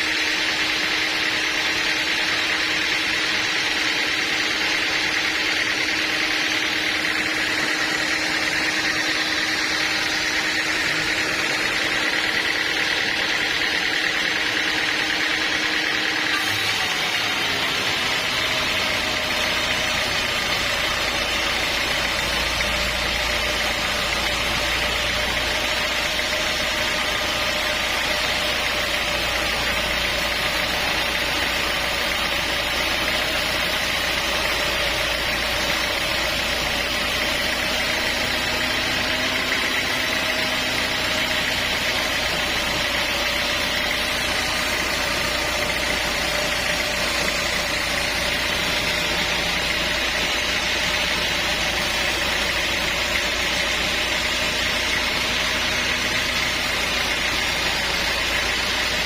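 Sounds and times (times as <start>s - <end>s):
deep machinery rumble: 0.0s - 59.0s
sawmill machinery drone: 0.0s - 59.0s.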